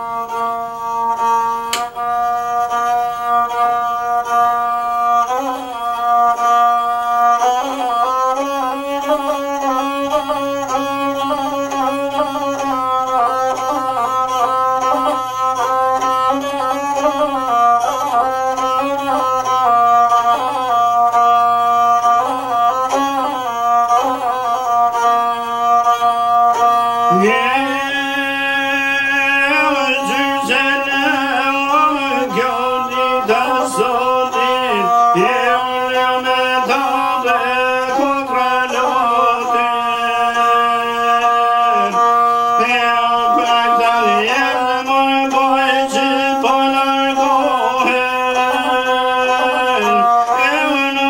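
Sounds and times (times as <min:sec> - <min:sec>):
bowed single-string fiddle: 0:00.0 - 0:51.0
man singing: 0:02.8 - 0:51.0.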